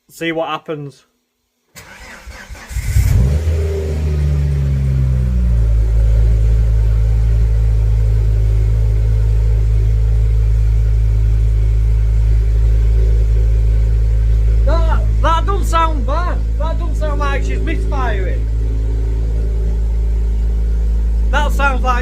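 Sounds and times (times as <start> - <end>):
car engine starting and idling: 1.8 - 22.0.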